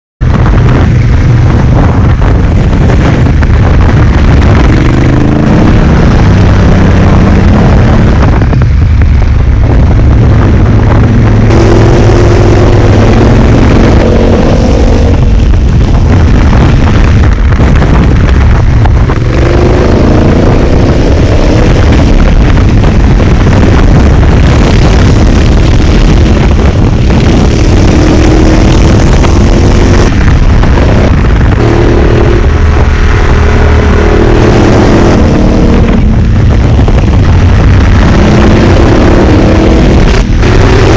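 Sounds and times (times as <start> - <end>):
heavy low rumble: 0.0 - 40.9
motorcycle accelerating through gears: 0.3 - 40.9.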